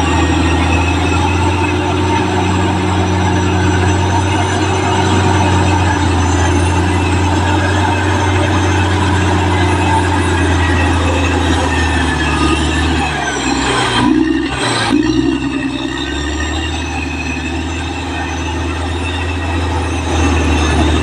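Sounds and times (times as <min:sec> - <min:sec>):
bulldozer diesel engine: 0:00.0 - 0:21.0.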